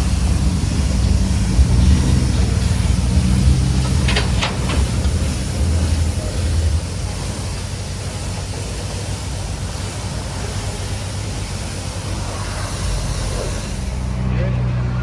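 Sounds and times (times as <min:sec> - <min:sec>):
pressure wand spraying water: 0:00.0 - 0:14.2.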